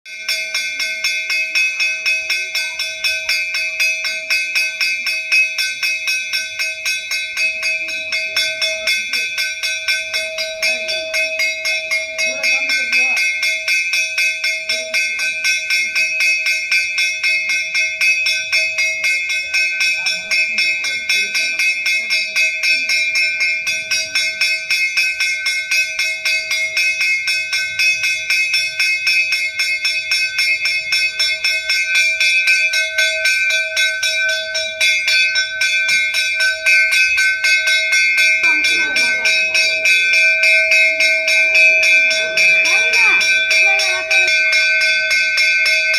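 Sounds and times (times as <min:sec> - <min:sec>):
brass bell rung rapidly: 0:00.1 - 0:45.9.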